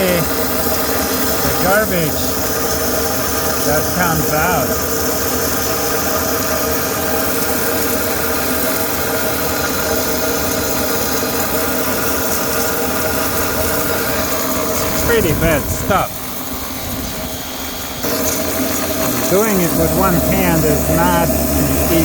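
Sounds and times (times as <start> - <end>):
pressure washer motor hum: 0.0 - 22.0.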